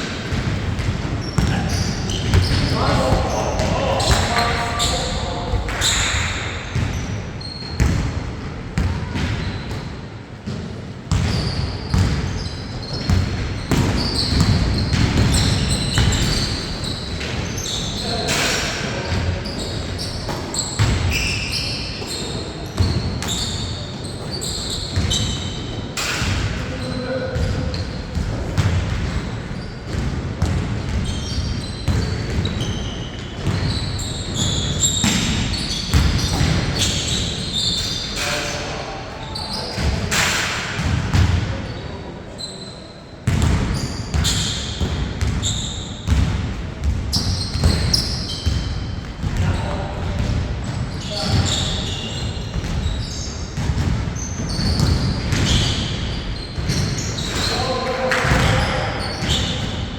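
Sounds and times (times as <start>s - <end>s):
basketball bouncing on court: 0.0s - 18.4s, 19.0s - 26.5s, 27.3s - 37.3s, 39.7s - 41.5s, 43.2s - 59.9s
shoe squeaks: 0.8s - 8.0s, 11.1s - 28.2s, 30.9s - 40.3s, 41.6s - 46.2s, 47.1s - 49.8s, 50.6s - 59.9s.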